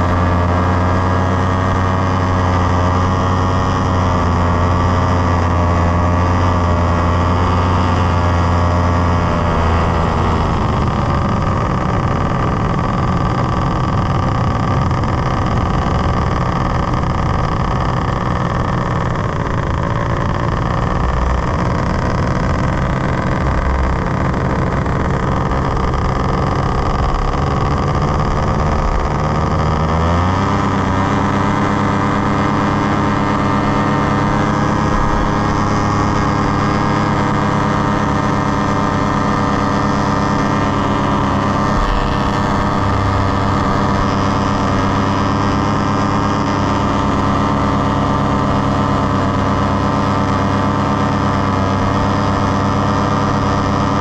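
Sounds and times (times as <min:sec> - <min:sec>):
engine and propeller drone: 0:00.0 - 0:54.0.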